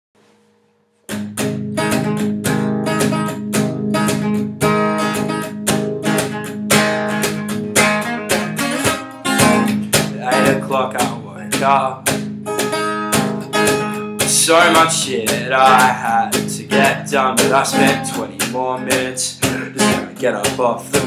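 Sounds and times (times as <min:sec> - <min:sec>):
acoustic guitar strumming: 0:00.2 - 0:21.0.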